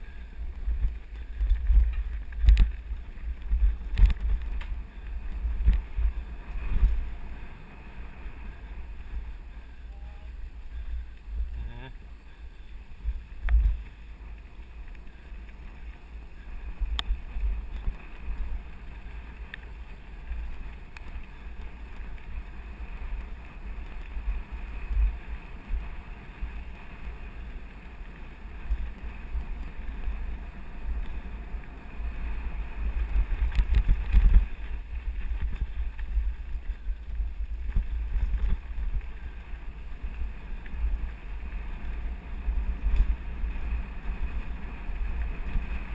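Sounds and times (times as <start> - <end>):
bike tyres on dirt: 0.0 - 45.9
wind rumbling on microphone: 0.0 - 45.9.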